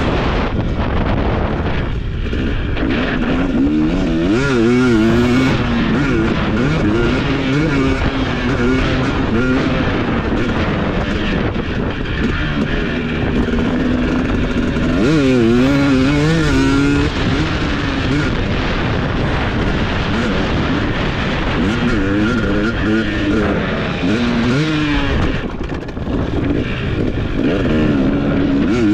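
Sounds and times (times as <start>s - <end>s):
motocross bike engine revving: 0.0s - 28.9s.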